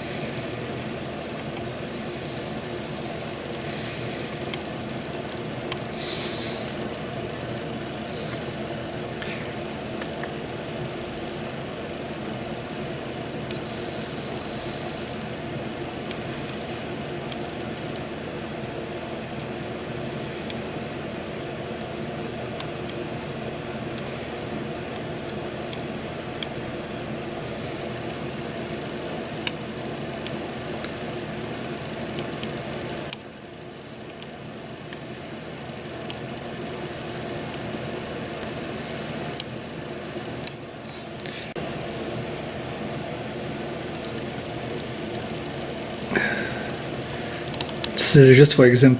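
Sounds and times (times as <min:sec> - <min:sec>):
fan-like mechanical hum: 0:00.0 - 0:48.9.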